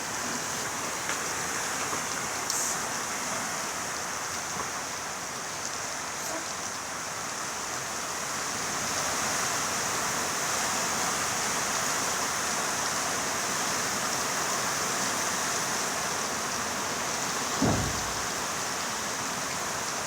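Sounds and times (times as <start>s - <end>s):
rain in strong wind: 0.0s - 20.0s.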